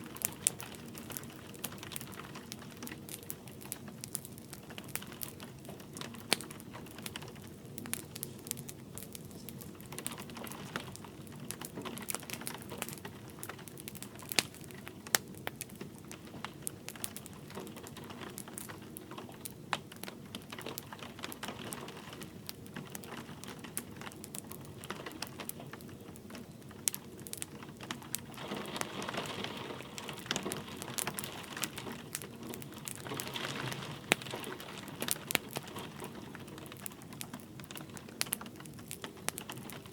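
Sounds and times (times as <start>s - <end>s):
light rain hiss: 0.0s - 39.9s
wood fire crackling and popping: 0.0s - 39.9s.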